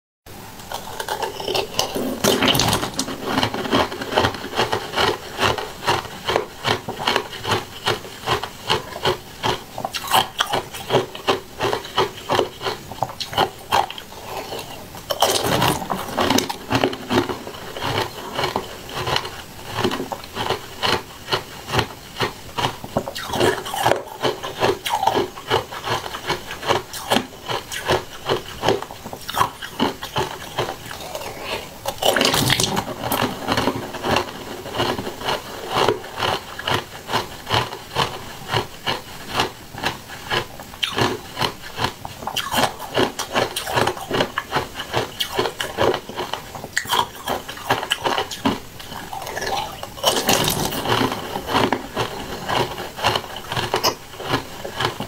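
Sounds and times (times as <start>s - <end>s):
crunchy chewing: 0.4s - 55.0s.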